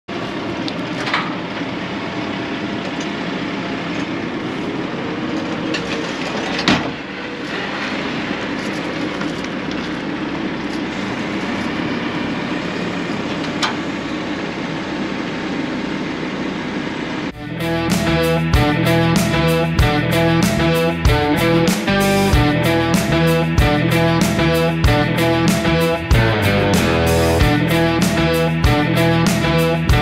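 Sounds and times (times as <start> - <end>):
diesel engine running: 0.1 - 30.0.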